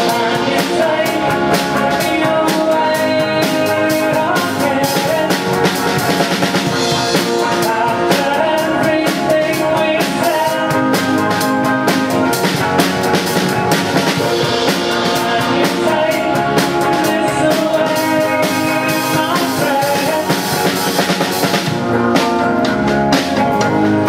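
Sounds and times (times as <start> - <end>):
voices singing: 0.0 - 23.9
electric guitar: 0.0 - 24.0
steady drum beat: 0.0 - 24.0.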